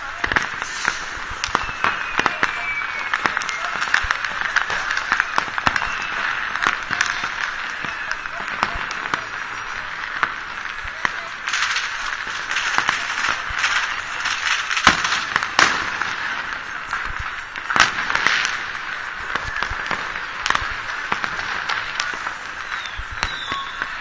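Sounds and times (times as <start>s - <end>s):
distant firecracker crackle: 0.0s - 24.0s
sharp loud firework bangs: 0.0s - 24.0s.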